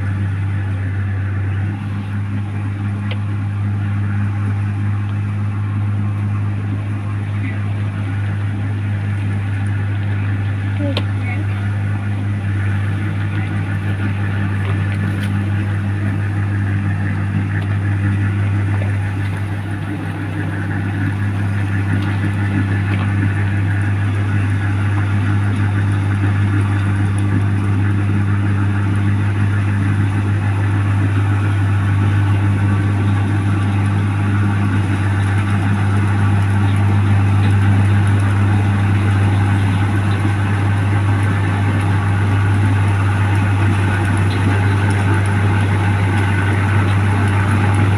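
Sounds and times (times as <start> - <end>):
combine harvester engine humming: 0.0 - 47.9.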